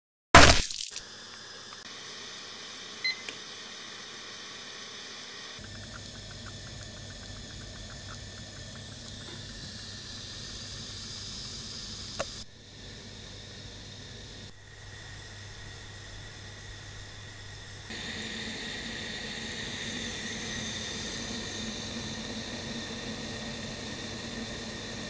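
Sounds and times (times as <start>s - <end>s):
water hissing in saucepan: 0.9s - 25.0s.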